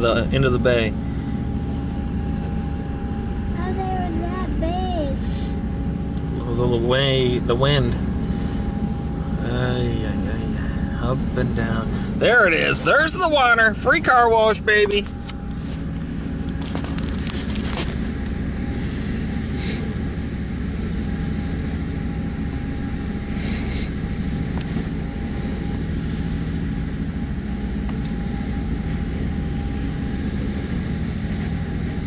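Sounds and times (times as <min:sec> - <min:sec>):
motorboat engine drone: 0:00.0 - 0:32.0
water splashing against boat: 0:00.0 - 0:32.0.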